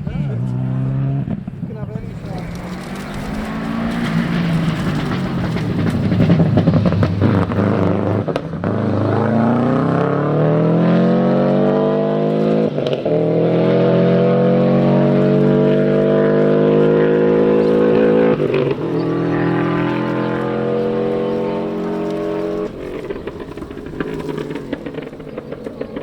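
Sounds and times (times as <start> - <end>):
rally car accelerating hard: 0.0 - 26.0.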